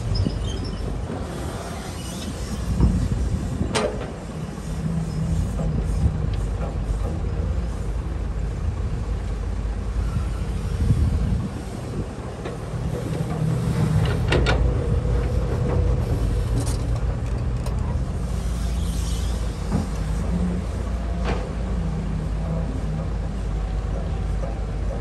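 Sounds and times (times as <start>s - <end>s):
excavator diesel engine under load: 0.0s - 25.0s.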